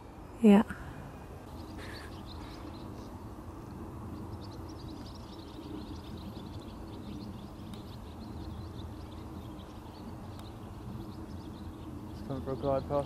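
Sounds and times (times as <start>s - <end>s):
low steady rumble: 0.0s - 13.0s
small birds chirping: 1.4s - 13.0s.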